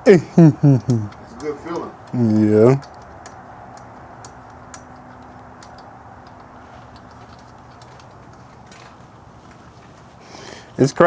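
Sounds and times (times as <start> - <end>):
faint steady hum: 0.0 - 11.0
hand tool clicks and taps: 0.5 - 9.6.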